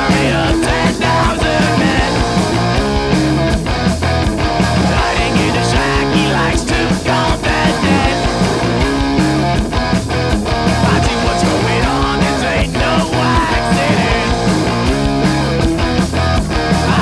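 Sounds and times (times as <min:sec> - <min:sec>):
bass guitar: 0:00.0 - 0:17.0
distorted electric guitar: 0:00.0 - 0:17.0
steady drum hits: 0:00.0 - 0:17.0.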